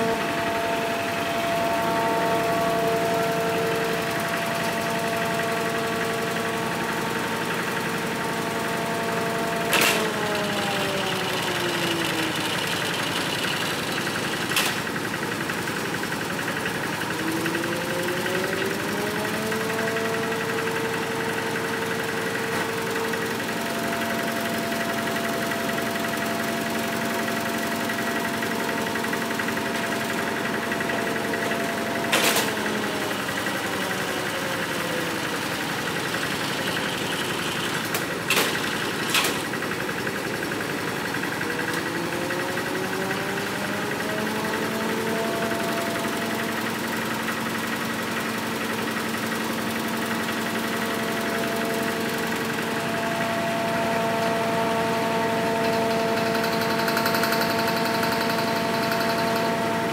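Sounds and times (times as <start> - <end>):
machine engine running: 0.0 - 59.9.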